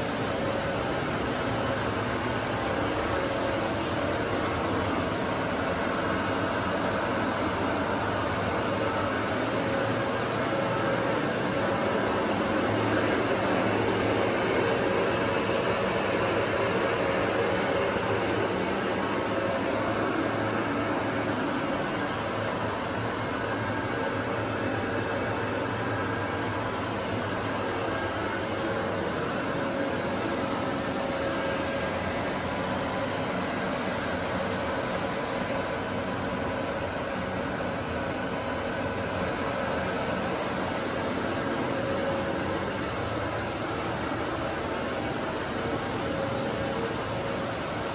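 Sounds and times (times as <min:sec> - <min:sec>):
workshop machinery and fans humming: 0:00.0 - 0:47.9.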